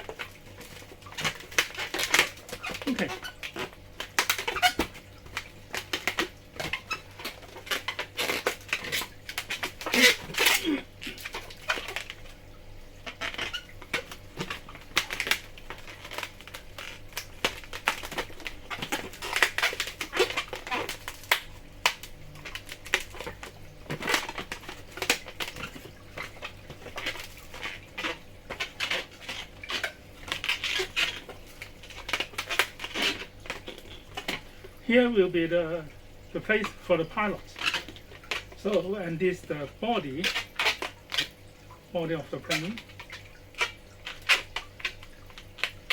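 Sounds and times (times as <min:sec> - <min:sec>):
rubbery balloon squeaks: 0:00.0 - 0:45.9.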